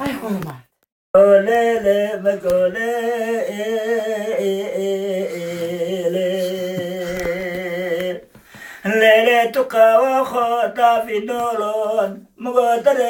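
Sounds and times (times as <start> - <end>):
man singing unaccompanied: 1.2 - 13.0.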